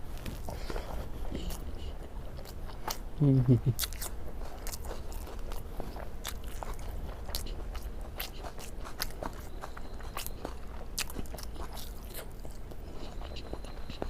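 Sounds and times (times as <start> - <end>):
person chewing wetly: 0.2 - 14.0.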